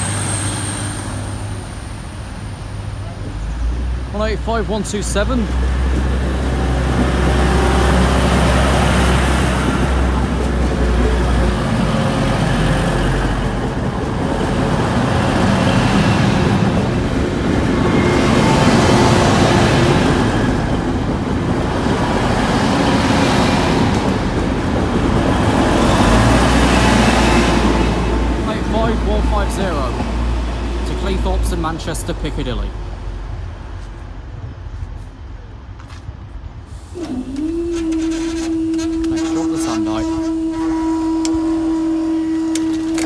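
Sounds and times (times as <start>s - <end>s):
trains passing at speed: 0.0s - 43.0s.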